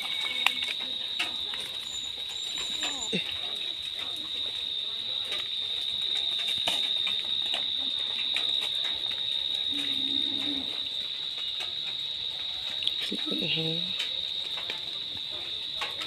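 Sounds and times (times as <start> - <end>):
dry palm fronds rustling: 0.0 - 16.0
insects droning: 0.0 - 16.0.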